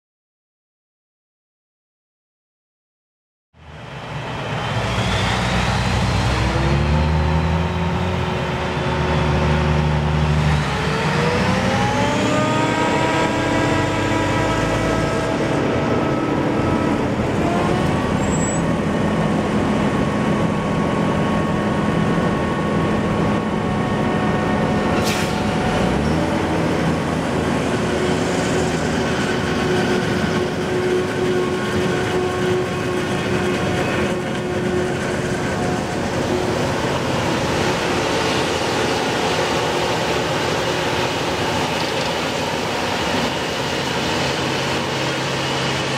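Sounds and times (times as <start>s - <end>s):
forage harvester engine drone: 3.6s - 45.9s.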